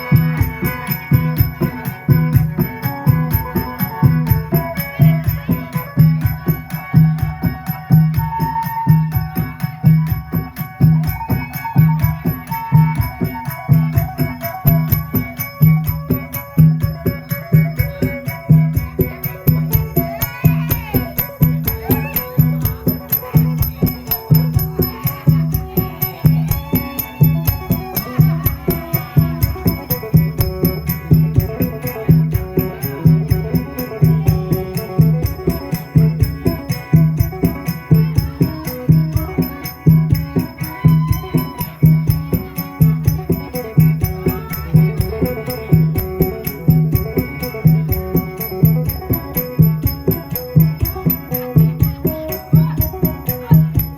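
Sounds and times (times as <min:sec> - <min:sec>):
plucked lute playing folk tune: 0:00.0 - 0:08.3, 0:12.9 - 0:53.9
percussion beat with rattling: 0:00.0 - 0:53.9.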